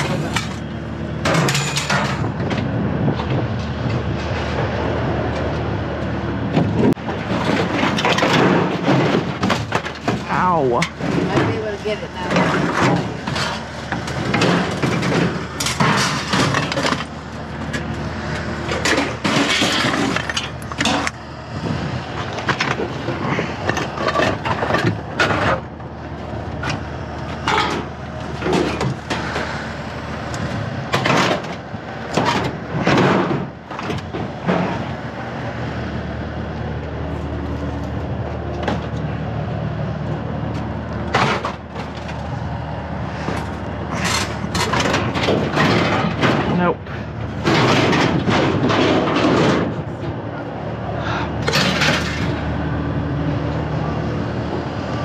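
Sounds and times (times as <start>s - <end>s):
scrap metal clanking and scraping: 0.0s - 5.6s, 6.5s - 35.1s, 40.5s - 52.8s
steady low rumble: 0.0s - 55.0s.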